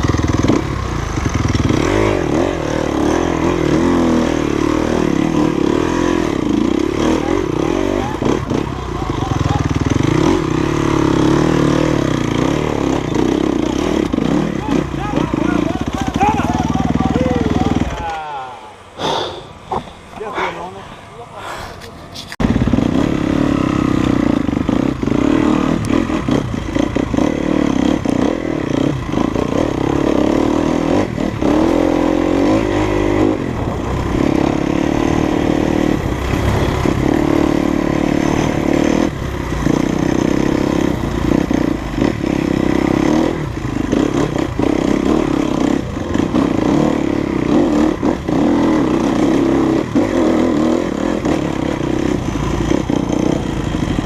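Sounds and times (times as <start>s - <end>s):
dirt bike engine revving: 0.0s - 18.5s, 22.4s - 54.0s.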